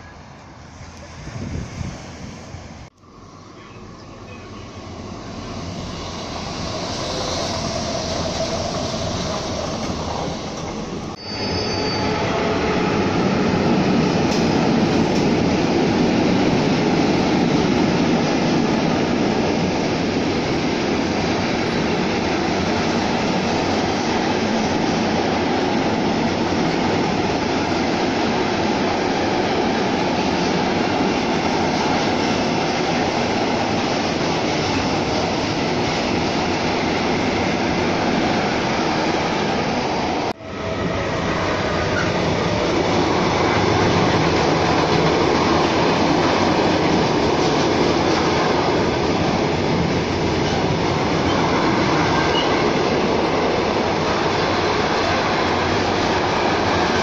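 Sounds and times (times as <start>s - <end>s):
freight train rolling past: 0.0s - 57.0s
train noise: 0.0s - 57.0s.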